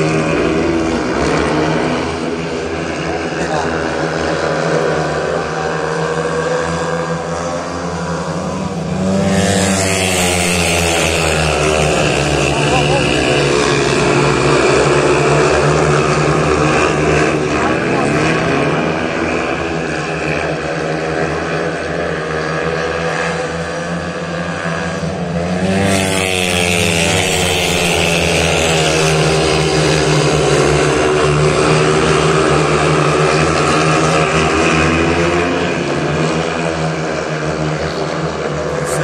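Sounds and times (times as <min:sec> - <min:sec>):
motorcycle engines racing: 0:00.0 - 0:39.0.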